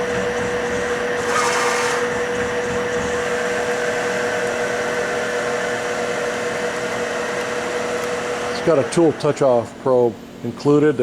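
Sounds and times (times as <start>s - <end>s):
machine whine: 0.0s - 9.3s
milling machine hum: 0.0s - 10.8s.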